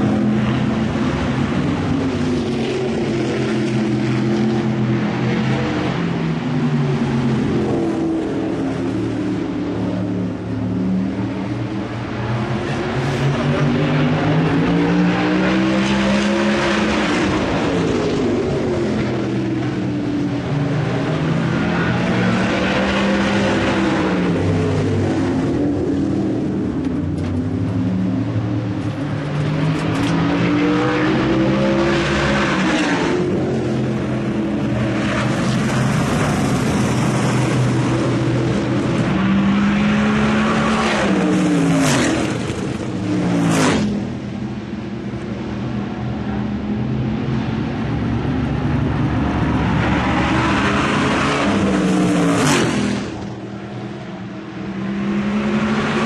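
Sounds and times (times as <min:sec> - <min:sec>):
race car engines droning: 0:00.0 - 0:56.0
race cars passing by: 0:00.0 - 0:56.0.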